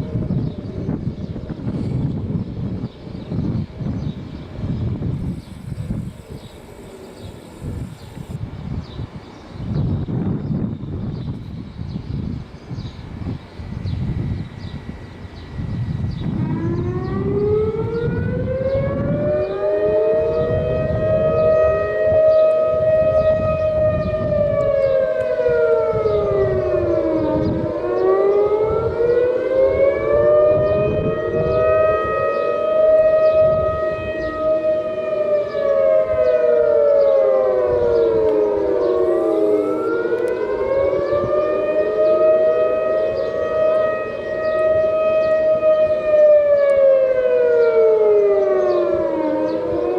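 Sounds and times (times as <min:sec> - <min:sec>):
warning sirens wailing: 0:00.0 - 0:49.9.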